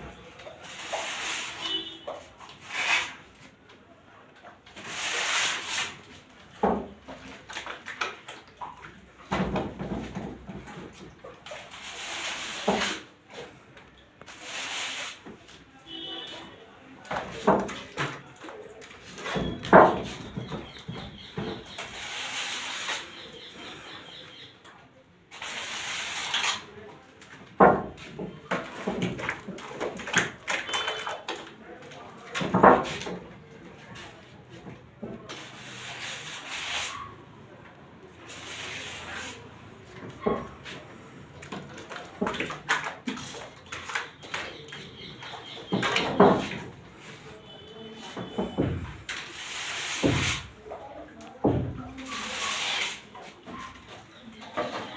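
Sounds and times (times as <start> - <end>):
plaster scraping rubs: 0.0 - 3.6, 4.7 - 8.7, 9.3 - 13.6, 14.2 - 16.5, 17.1 - 24.5, 25.3 - 26.8, 32.4 - 37.2, 38.2 - 54.9.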